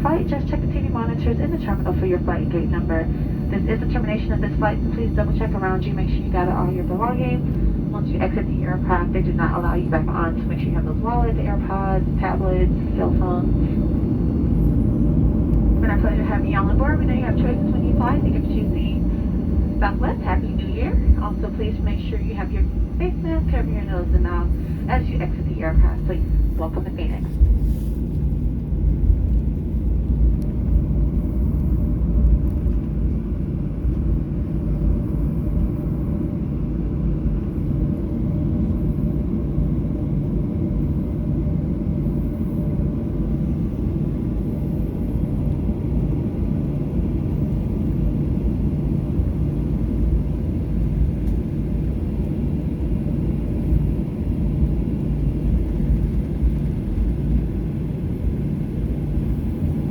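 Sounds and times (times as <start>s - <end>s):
low rumble inside aircraft cabin: 0.0s - 59.9s.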